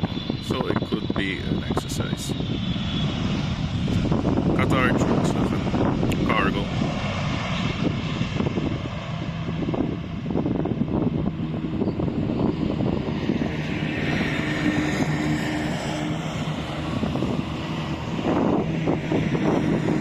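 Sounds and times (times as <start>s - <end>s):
jet engines rumbling and whining: 0.0s - 20.0s.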